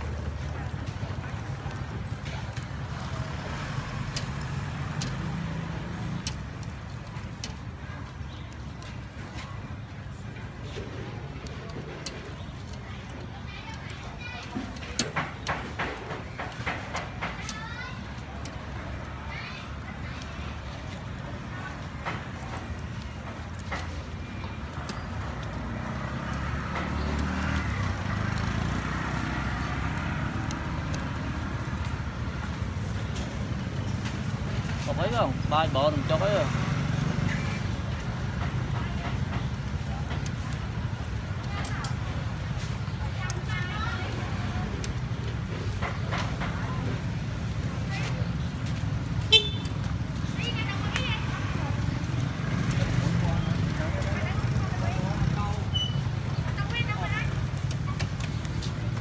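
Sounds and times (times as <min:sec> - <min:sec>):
pork sizzling crackles and clicks: 0:00.0 - 0:59.0
vehicle engine rumbling: 0:00.0 - 0:59.0.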